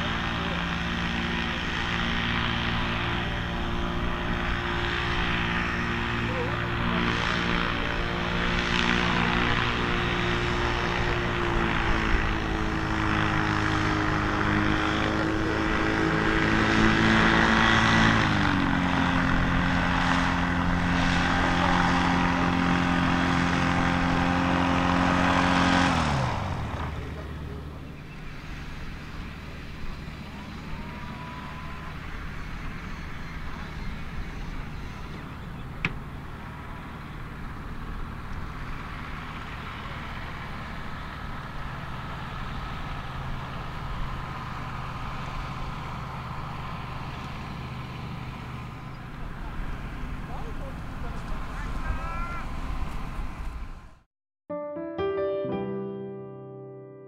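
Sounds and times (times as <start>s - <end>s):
propeller spinning down: 0.0s - 54.0s
propeller engine running: 0.0s - 54.1s.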